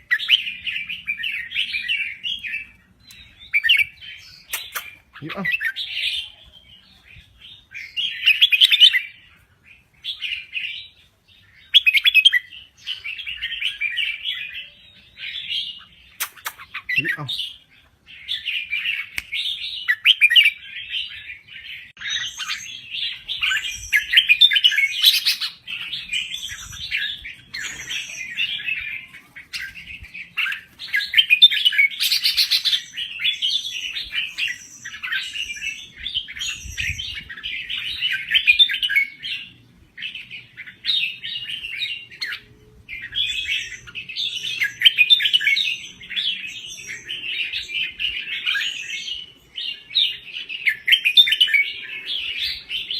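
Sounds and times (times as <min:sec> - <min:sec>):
bulbul singing: 0:00.0 - 0:06.6, 0:11.6 - 0:52.9.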